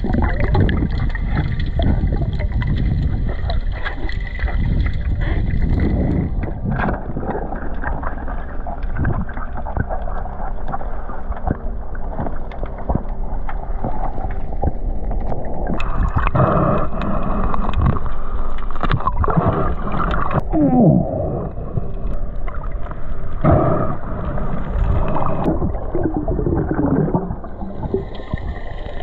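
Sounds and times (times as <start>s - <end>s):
muffled underwater rumble: 0.0s - 29.0s
underwater clicks and crackles: 0.0s - 29.0s.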